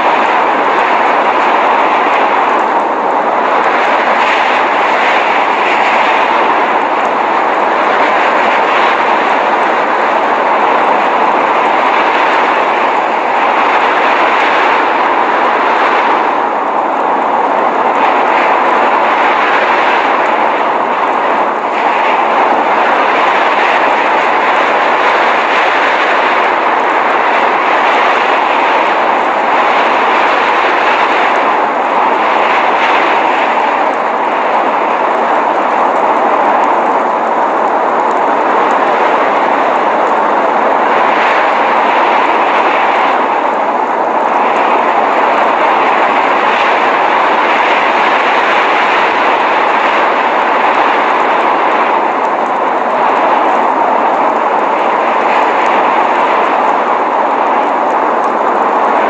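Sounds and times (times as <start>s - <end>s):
blizzard wind rushing: 0.0s - 59.0s.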